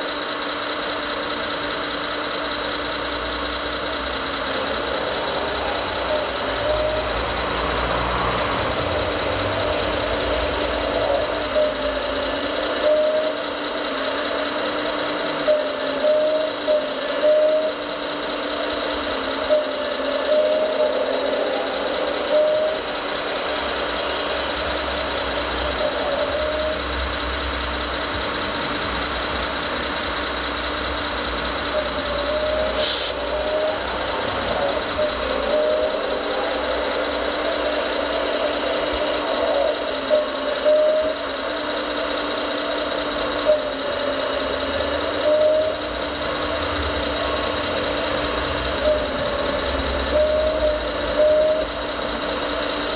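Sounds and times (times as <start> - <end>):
hydraulic pump whining: 0.0 - 52.9.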